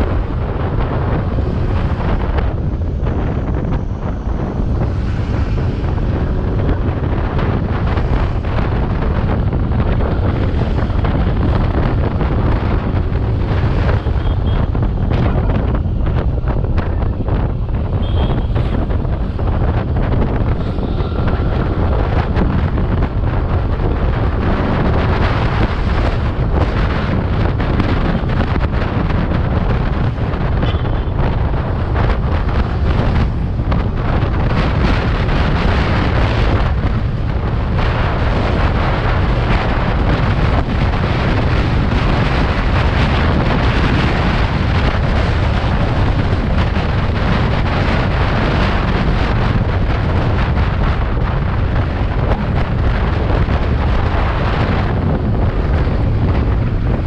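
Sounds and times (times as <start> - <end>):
wind buffeting on microphone: 0.0 - 57.0.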